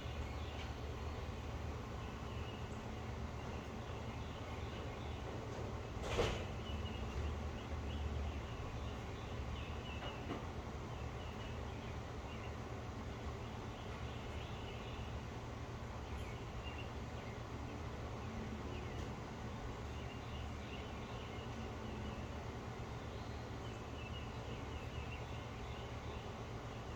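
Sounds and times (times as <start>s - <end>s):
faint birds chirping: 0.0s - 5.6s, 6.5s - 26.9s.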